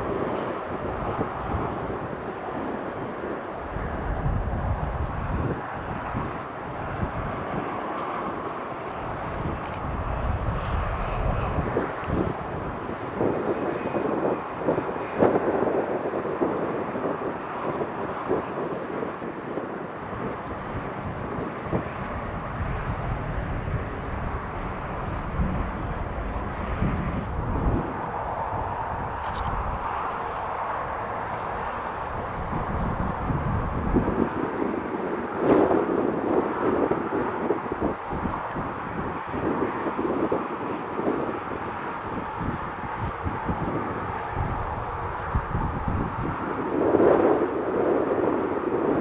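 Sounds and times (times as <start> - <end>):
aircraft engines running: 0.0 - 49.0
wind buffeting microphone: 0.0 - 49.0.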